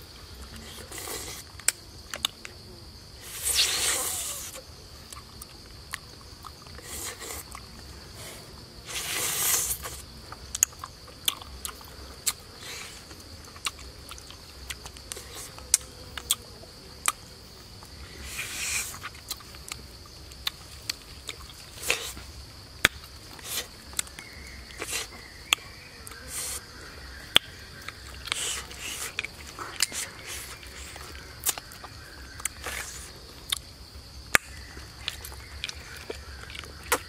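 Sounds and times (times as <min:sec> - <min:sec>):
insect buzz: 0:00.0 - 0:37.0.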